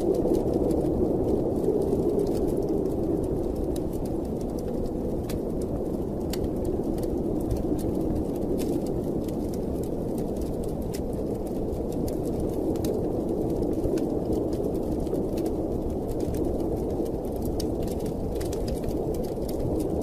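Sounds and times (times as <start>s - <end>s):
howling blizzard wind: 0.0s - 20.0s
wood fire crackling: 0.0s - 20.0s.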